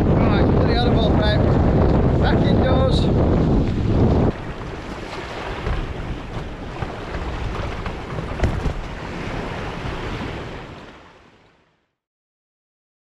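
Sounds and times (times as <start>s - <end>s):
wind gusting against a tent: 0.0s - 11.3s
wind rumbling on microphone: 0.0s - 11.5s.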